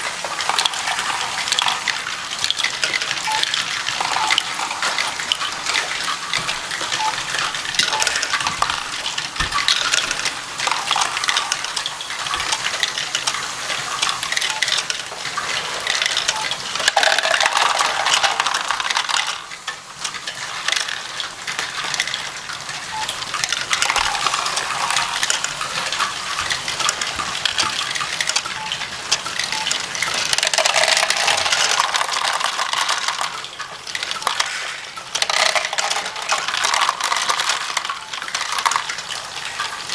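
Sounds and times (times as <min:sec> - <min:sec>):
plastic bricks clattering: 0:00.0 - 0:39.9.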